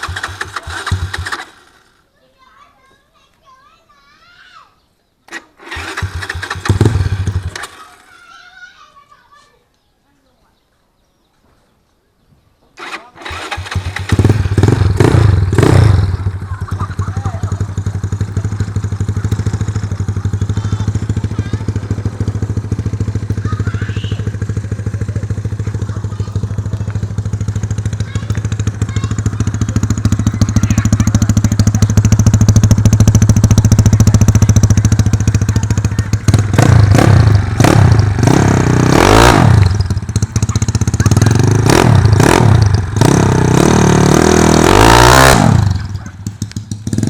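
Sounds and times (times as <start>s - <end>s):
scooter engine revving: 0.0s - 2.0s, 5.3s - 8.4s, 12.8s - 47.0s
scooter engine idling: 0.0s - 2.1s, 5.6s - 8.6s, 12.8s - 47.0s.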